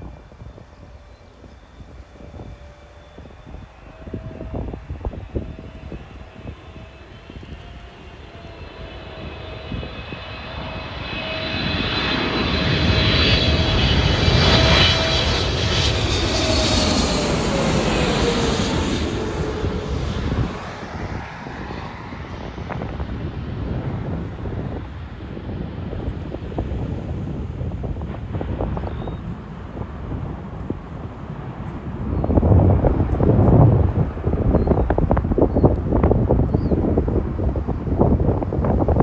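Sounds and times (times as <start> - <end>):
high engine whine: 0.0 - 39.0
jet engine roar: 0.0 - 39.0.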